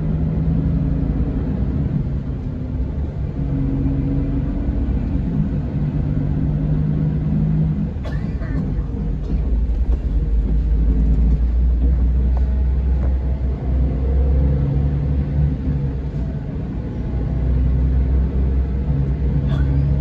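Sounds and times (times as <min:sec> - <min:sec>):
coach engine deep rumble: 0:00.0 - 0:20.0.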